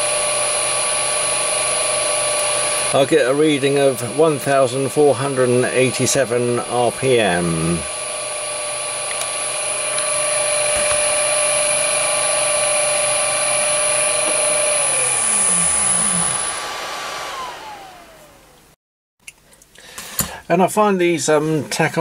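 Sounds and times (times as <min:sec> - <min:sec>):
electric motor whine: 0:00.0 - 0:18.8.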